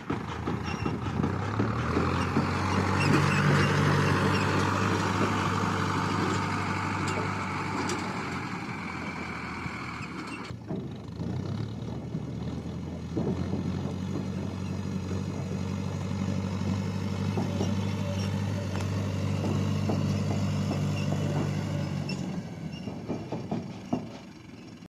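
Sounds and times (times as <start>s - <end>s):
rattles and clanks: 0.0s - 24.9s
tractor engine running: 0.0s - 24.9s.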